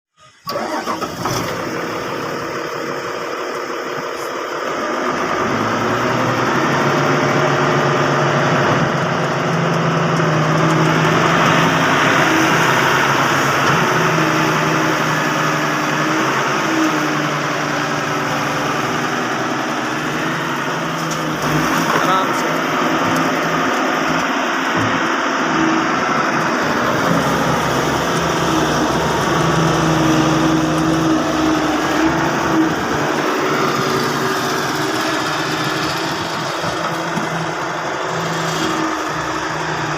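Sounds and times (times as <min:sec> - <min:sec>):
excavator diesel engine running: 0:00.2 - 0:39.9.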